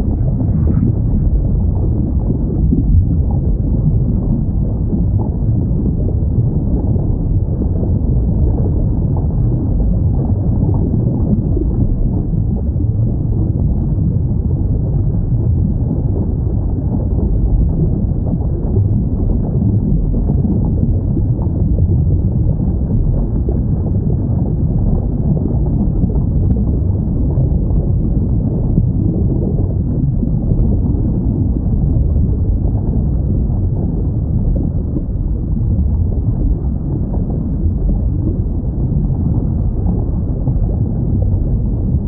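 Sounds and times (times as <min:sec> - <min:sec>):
deep underwater rumble: 0:00.0 - 0:42.0.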